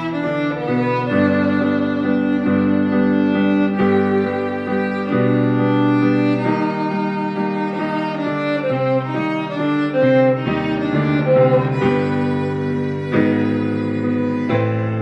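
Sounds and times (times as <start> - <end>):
bowed strings playing melody: 0.0 - 15.0.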